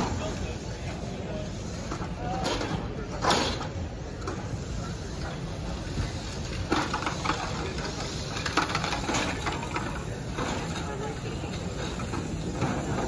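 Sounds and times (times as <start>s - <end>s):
murmur of a busy gym: 0.0s - 13.0s.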